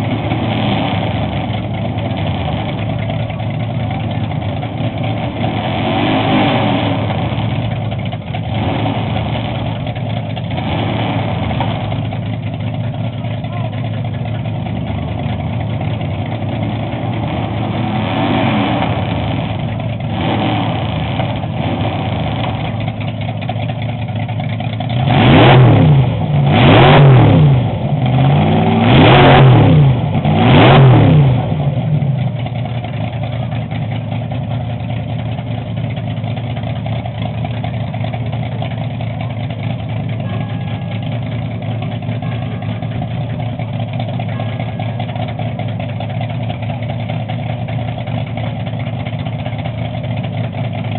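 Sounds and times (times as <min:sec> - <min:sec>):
drag car engine idling and revving: 0:00.0 - 0:50.9.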